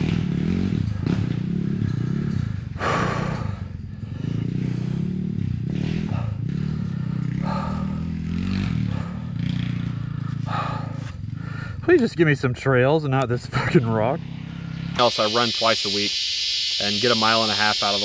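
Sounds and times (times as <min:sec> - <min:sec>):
dirt bike engine revving: 0:00.0 - 0:11.8, 0:13.5 - 0:18.0.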